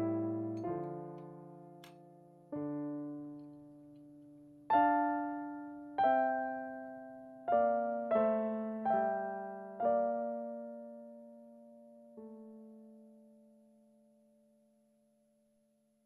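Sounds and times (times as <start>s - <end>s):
piano chords ringing: 0.0s - 13.9s.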